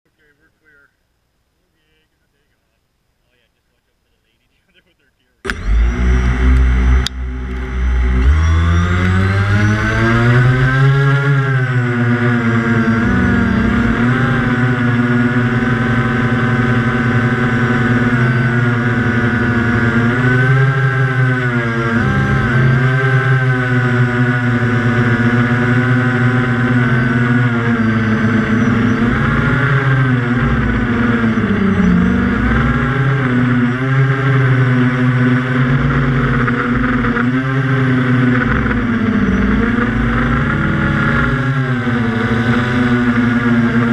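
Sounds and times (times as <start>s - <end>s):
drone propellers whining: 4.2s - 43.9s.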